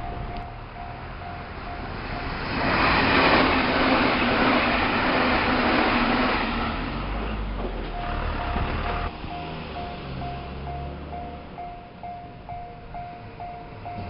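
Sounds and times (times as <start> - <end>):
electric train passing: 0.0 - 14.0.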